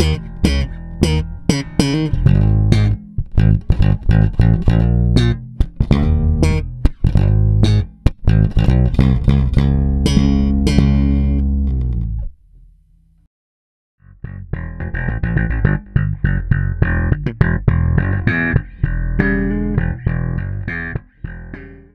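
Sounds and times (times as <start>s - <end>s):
electric bass guitar plucked notes: 0.0s - 12.4s, 14.0s - 21.9s.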